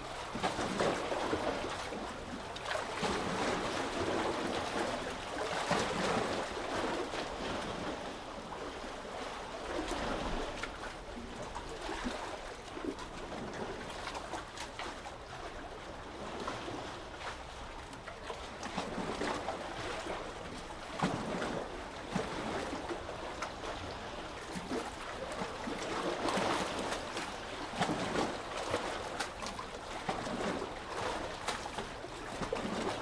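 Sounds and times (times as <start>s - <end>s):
sea water lapping: 0.0s - 33.0s
small splashes and trickles: 0.0s - 33.0s.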